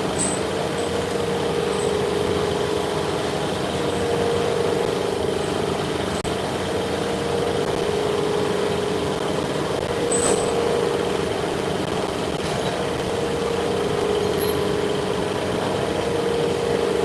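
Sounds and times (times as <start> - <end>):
workshop machine humming: 0.0 - 17.0.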